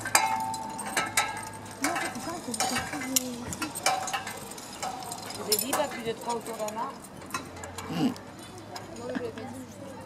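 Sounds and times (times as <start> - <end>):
carabiners clinking together: 0.0 - 9.4.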